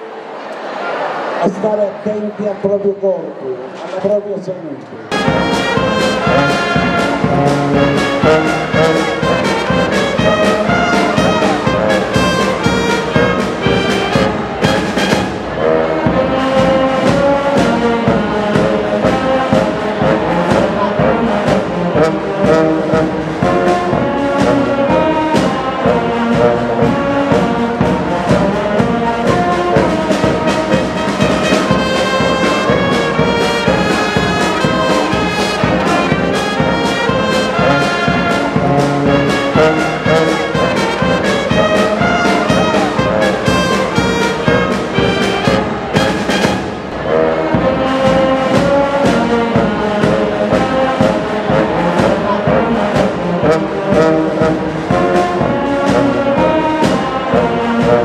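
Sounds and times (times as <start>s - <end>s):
brass-led background music: 5.1s - 58.0s.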